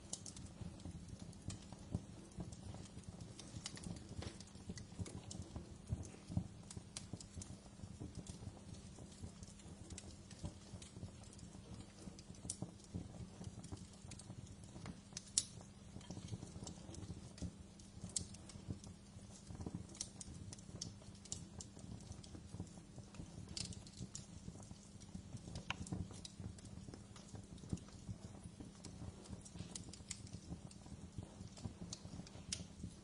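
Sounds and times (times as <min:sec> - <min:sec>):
low rumble of burning fire: 0:00.0 - 0:33.0
wood fire crackling and popping: 0:00.0 - 0:33.0.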